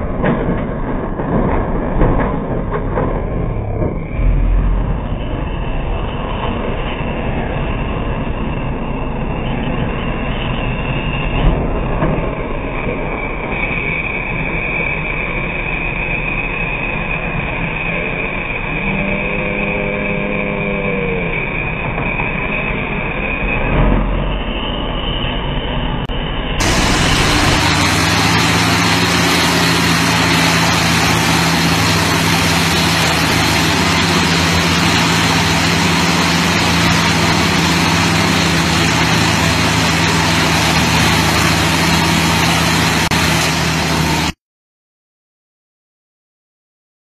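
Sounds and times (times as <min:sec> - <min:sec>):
heavy equipment engine running: 0:00.0 - 0:44.4.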